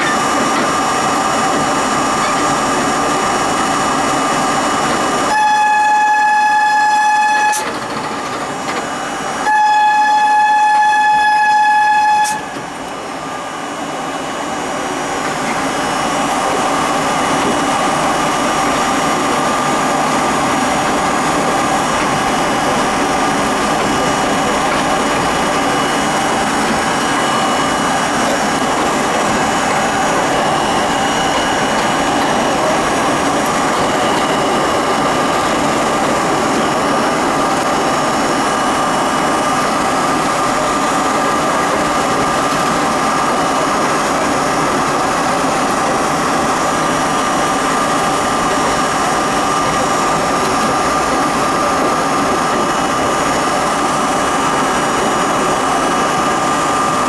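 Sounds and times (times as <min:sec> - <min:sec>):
high motor whine: 0:00.0 - 0:57.0
wheels rumbling on rail: 0:00.0 - 0:57.0.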